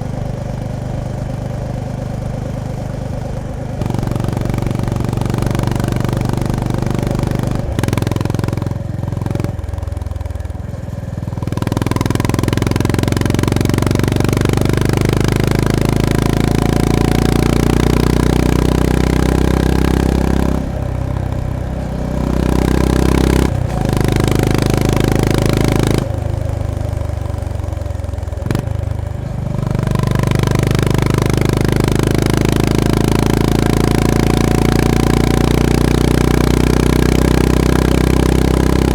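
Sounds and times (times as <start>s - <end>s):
motorcycle engine and exhaust revving: 0.0s - 38.9s.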